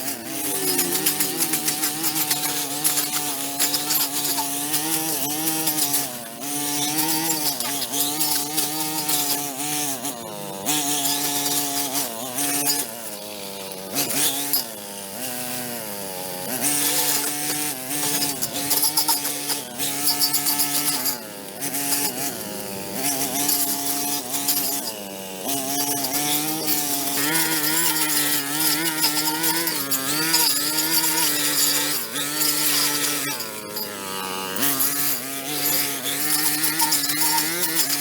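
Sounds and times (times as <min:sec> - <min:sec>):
gritty high rasp: 0:00.0 - 0:38.0
small petrol power tool engine: 0:00.0 - 0:38.0.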